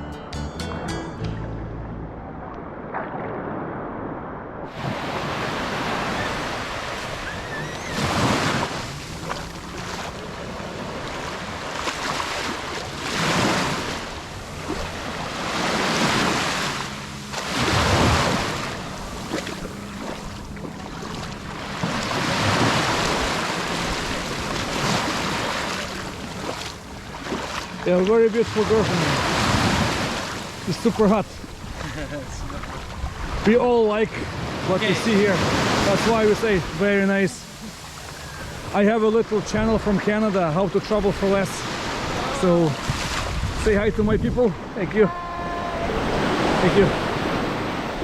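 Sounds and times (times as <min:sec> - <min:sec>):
sea waves breaking on a beach: 0:02.4 - 0:48.0.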